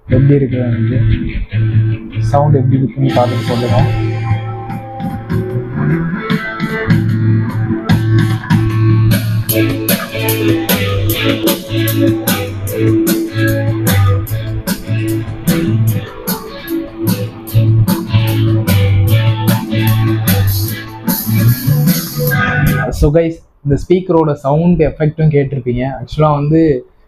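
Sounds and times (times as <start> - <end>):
instrumental music from speaker: 0.0 - 23.1.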